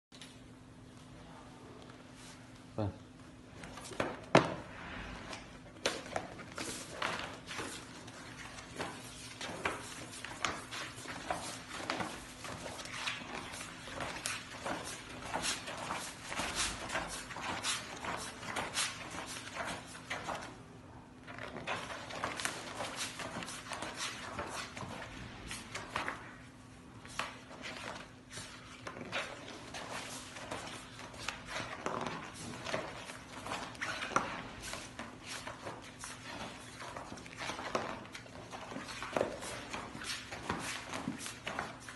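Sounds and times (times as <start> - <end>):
heavy pages flipping: 3.7 - 20.6, 21.3 - 41.9.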